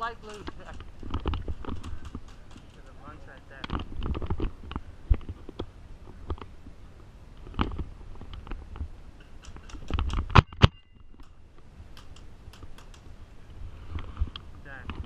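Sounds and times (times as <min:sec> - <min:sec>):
gear clicking and rustling: 0:00.0 - 0:06.5, 0:07.4 - 0:13.1.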